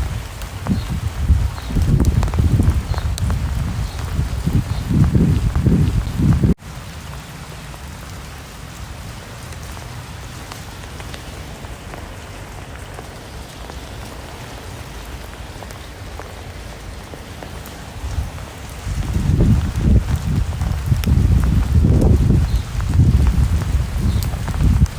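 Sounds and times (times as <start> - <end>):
rain falling on a surface: 0.0 - 24.9.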